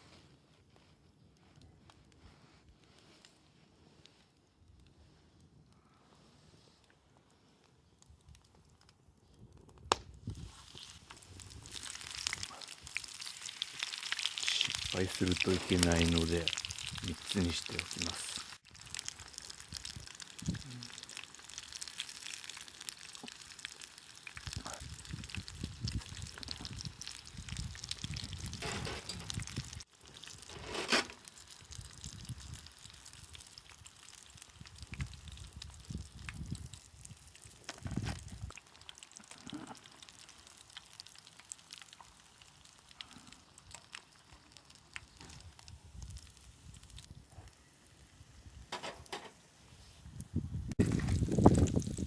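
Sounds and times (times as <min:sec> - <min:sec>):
hot oil sizzling and crackling: 0:09.8 - 0:52.0.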